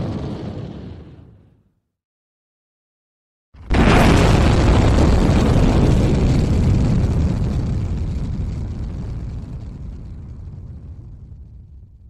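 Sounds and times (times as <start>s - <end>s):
explosion rumble: 0.0s - 1.6s, 3.6s - 12.0s.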